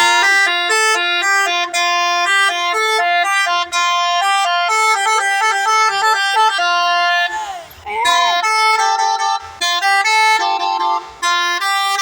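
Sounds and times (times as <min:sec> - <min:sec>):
multi-tone horn playing tune: 0:00.0 - 0:12.0.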